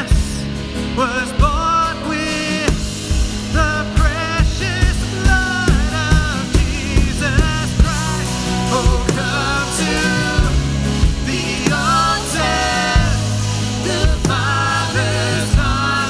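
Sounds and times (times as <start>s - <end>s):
acoustic guitar: 0.0s - 16.0s
bass guitar: 0.0s - 16.0s
drum kit beat: 0.0s - 16.0s
electric guitar: 0.0s - 16.0s
people singing: 0.0s - 16.0s.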